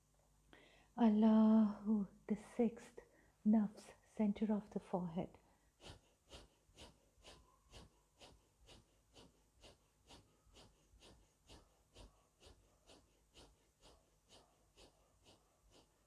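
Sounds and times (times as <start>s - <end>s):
rhythmic forceful breaths: 2.4s - 16.0s.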